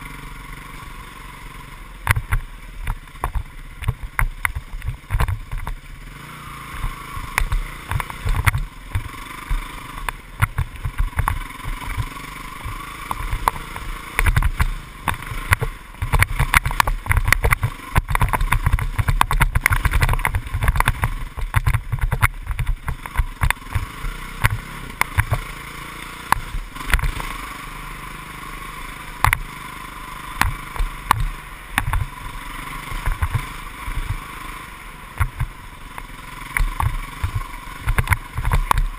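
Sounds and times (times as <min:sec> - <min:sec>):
dirt bike engine running: 0:00.0 - 0:38.9
thumps from rough ground: 0:02.0 - 0:05.8, 0:06.8 - 0:25.6, 0:26.2 - 0:27.4, 0:29.2 - 0:29.5, 0:30.3 - 0:34.4, 0:35.1 - 0:38.9.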